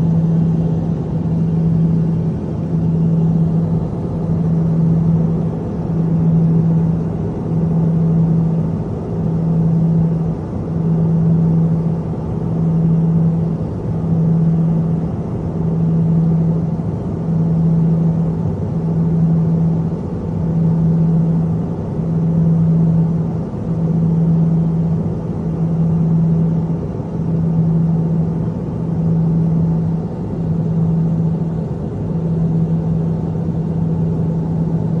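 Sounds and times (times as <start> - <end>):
turboprop cabin drone: 0.0 - 35.0.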